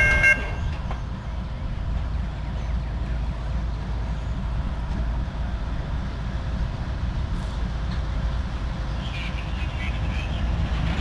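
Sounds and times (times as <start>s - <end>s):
diesel locomotives rumbling: 0.0s - 11.0s.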